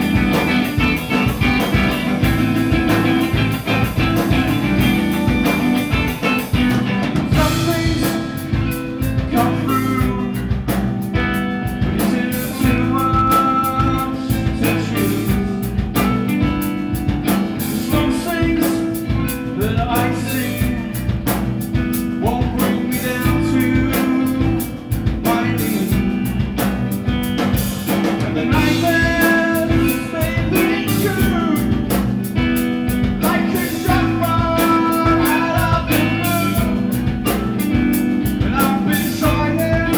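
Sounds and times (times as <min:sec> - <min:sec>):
man singing: 0:00.0 - 0:16.4, 0:17.5 - 0:26.7, 0:28.1 - 0:39.9
bass guitar: 0:00.0 - 0:39.9
drums: 0:00.0 - 0:39.9
electric guitars: 0:00.0 - 0:39.9.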